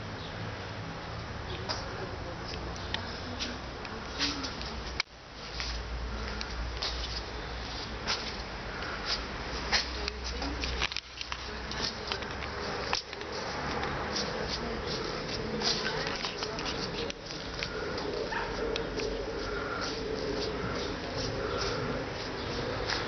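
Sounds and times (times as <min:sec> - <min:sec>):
indistinct voices: 0:01.4 - 0:05.1, 0:06.0 - 0:23.0.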